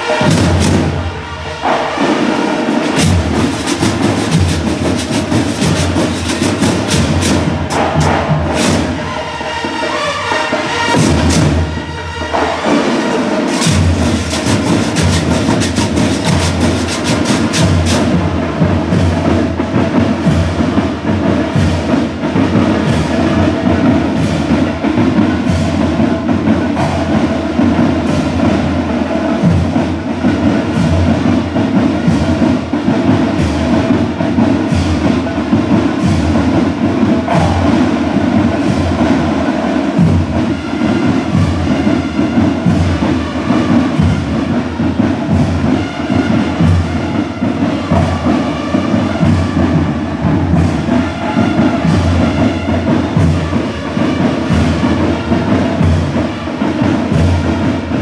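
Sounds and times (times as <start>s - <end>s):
marching drums: 0.0s - 58.0s.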